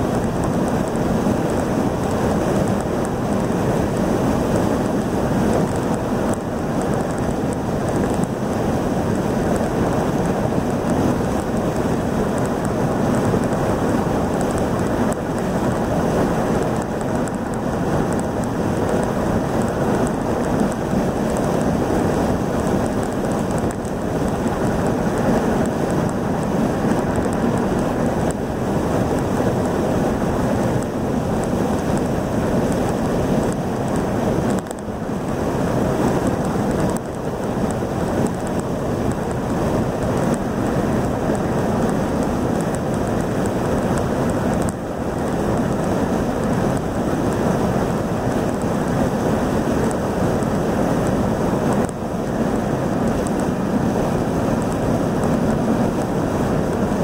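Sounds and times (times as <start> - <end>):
road and wind noise inside car: 0.0 - 57.0.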